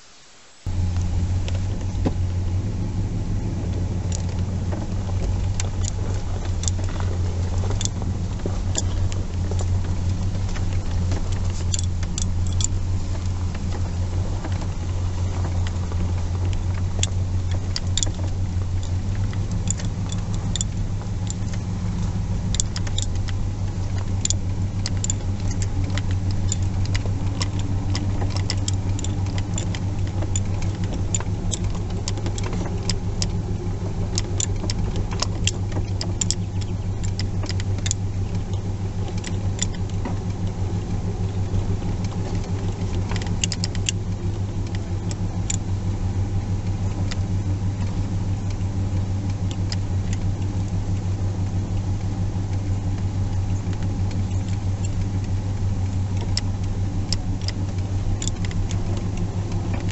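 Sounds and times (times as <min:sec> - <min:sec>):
car engine humming: 0:00.0 - 0:59.9
light clicks and rattles: 0:00.6 - 0:59.9.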